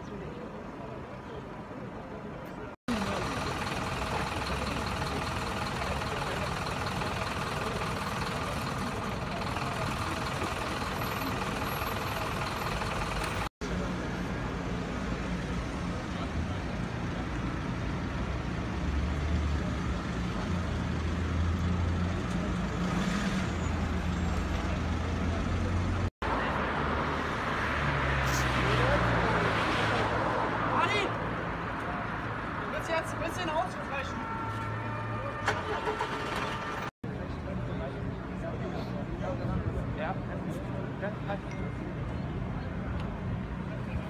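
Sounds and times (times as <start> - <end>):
street vehicle engines: 0.0 - 44.0.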